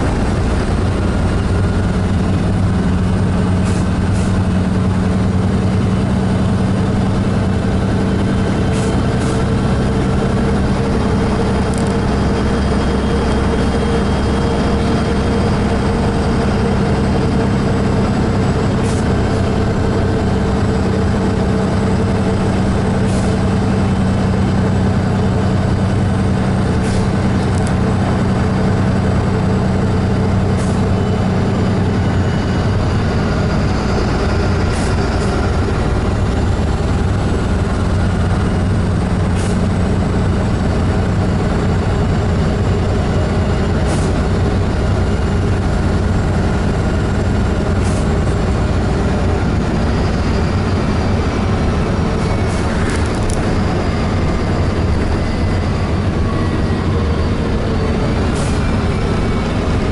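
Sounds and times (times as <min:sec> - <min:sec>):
engine hum: 0:00.0 - 0:59.9
road noise: 0:00.0 - 0:59.9.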